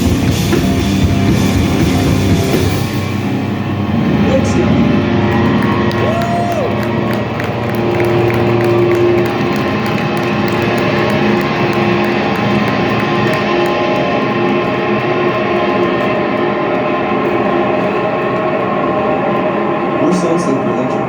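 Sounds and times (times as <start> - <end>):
electric guitars ringing chords: 0.0 - 21.0.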